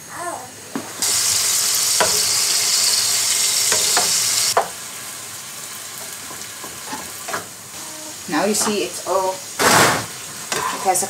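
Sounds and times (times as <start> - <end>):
steak sizzling in a frying pan: 0.9 - 11.0.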